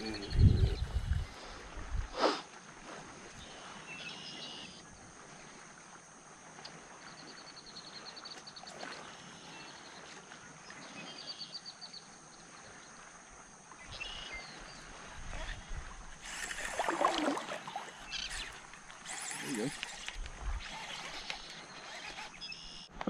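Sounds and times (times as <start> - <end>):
breeze and small waves: 0.0 - 23.0.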